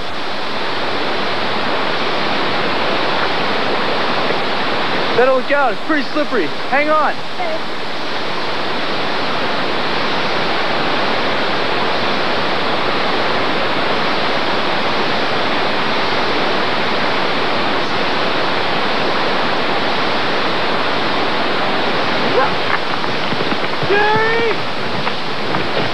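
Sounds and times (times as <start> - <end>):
waterfall rushing water: 0.0 - 25.9.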